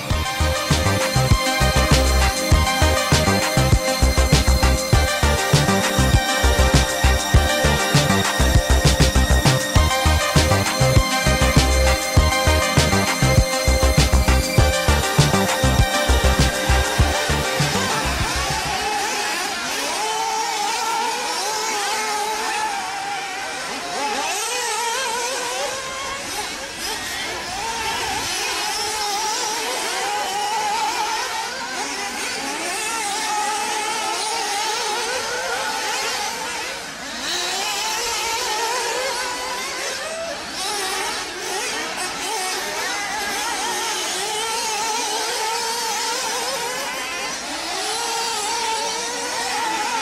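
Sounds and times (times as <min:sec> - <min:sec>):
remote control car motors whining: 0:00.0 - 0:50.0.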